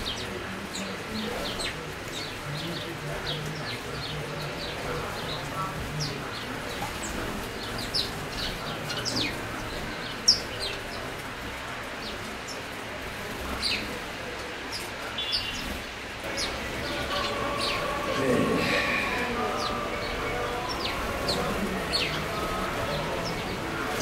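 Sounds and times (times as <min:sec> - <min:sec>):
sparrows chirping: 0:00.0 - 0:24.0.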